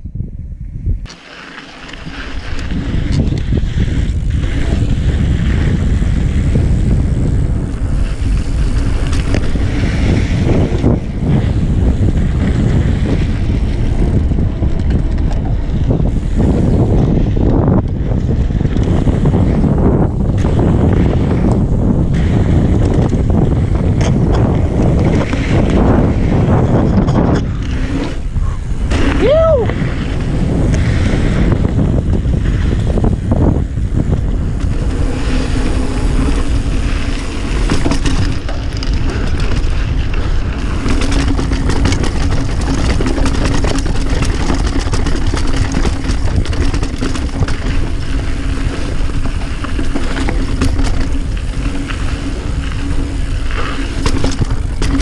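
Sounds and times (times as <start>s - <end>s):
wind buffeting microphone: 0.0s - 1.1s, 1.8s - 55.0s
mountain bike rumble and rattle: 0.0s - 55.0s.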